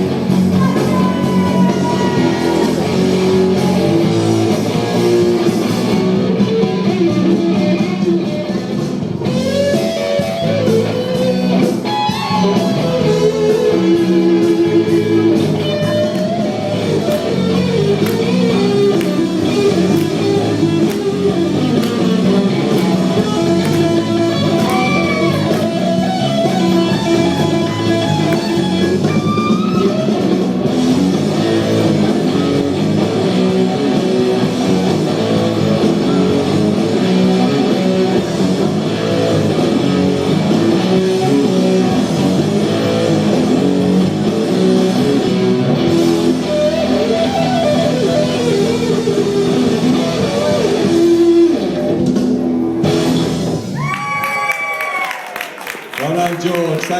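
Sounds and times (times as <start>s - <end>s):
guitar music: 0.0s - 53.8s
bass line: 0.0s - 53.9s.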